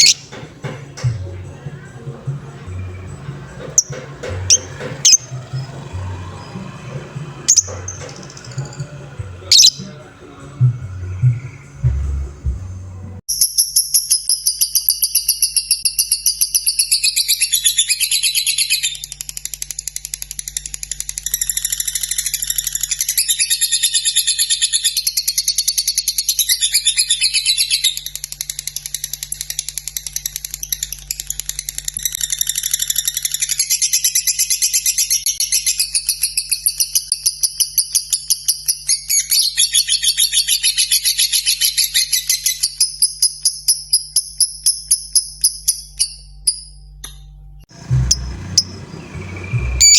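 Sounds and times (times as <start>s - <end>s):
lovebird chattering song: 0.0s - 0.4s, 1.0s - 6.9s, 7.5s - 12.1s, 13.3s - 46.7s, 47.8s - 49.9s.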